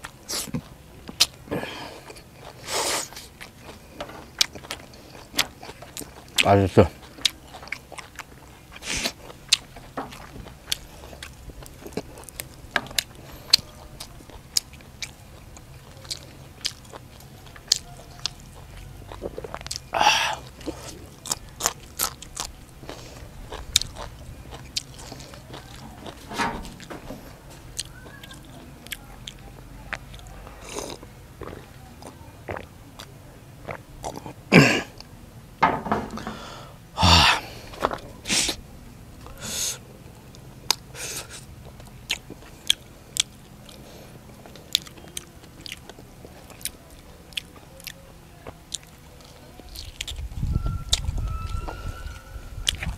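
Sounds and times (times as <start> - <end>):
person chewing crunchy food: 0.0 - 35.1, 39.2 - 51.1.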